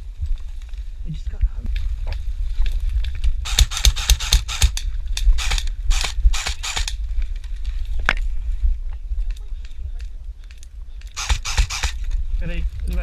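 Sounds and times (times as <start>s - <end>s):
low microphone rumble: 0.0s - 13.0s.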